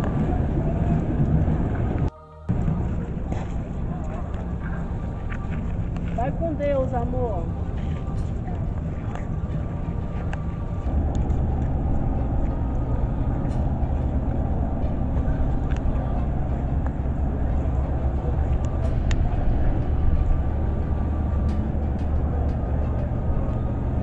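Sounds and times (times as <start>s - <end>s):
passing vehicle rumble: 0.0s - 24.0s.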